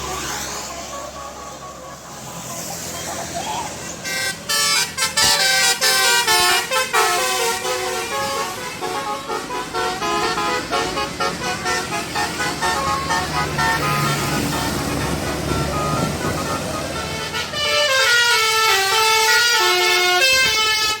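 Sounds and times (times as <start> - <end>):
musical air horn playing tune: 4.0 - 21.0.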